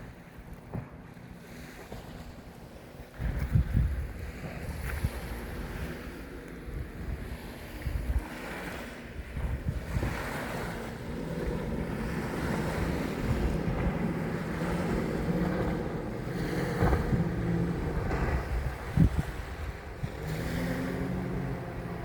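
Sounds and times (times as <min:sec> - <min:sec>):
motorboat engine humming: 0:00.0 - 0:22.0
water rushing past hull: 0:00.0 - 0:22.0
wind buffeting microphone: 0:00.0 - 0:22.0.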